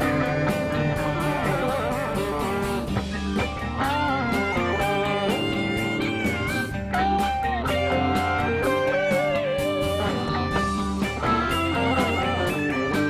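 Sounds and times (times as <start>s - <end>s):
bass guitar: 0.0s - 13.0s
drums: 0.0s - 13.0s
electric guitar lead: 0.0s - 13.0s.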